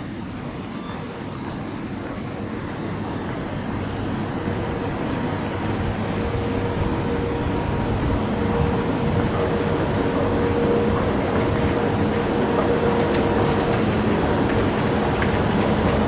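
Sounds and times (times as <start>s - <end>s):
station rumble: 2.0s - 16.0s.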